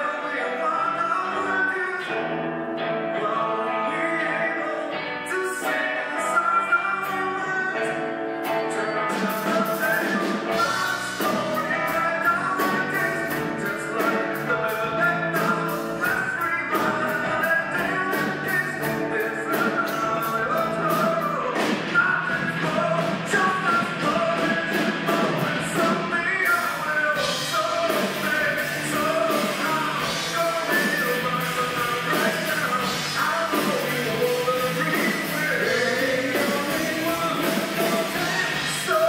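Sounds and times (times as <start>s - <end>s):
bass guitar: 0.0s - 39.0s
electric guitars: 0.0s - 39.0s
person singing: 0.0s - 39.0s
drum kit: 7.0s - 39.0s.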